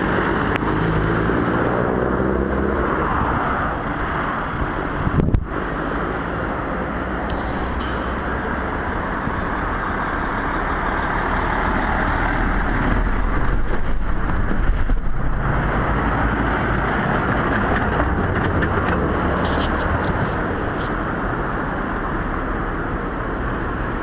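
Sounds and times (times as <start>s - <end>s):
cars passing on rough asphalt: 0.0s - 24.0s
concrete mixer truck passing: 0.0s - 24.0s.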